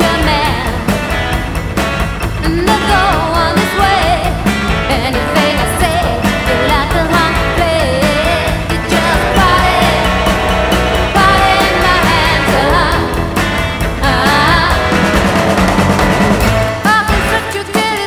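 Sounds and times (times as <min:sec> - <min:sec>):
song with singing and band: 0:00.0 - 0:18.0.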